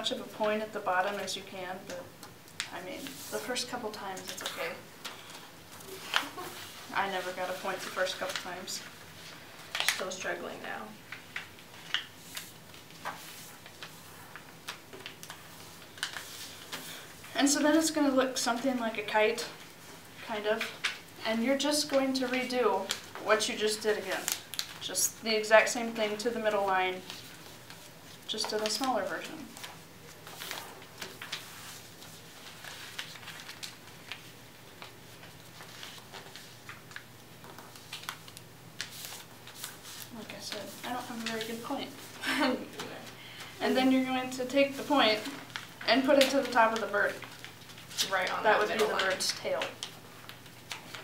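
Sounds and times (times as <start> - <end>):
paper crinkling and creasing: 2.5 - 10.4, 11.1 - 17.1, 21.8 - 24.9, 25.6 - 51.0.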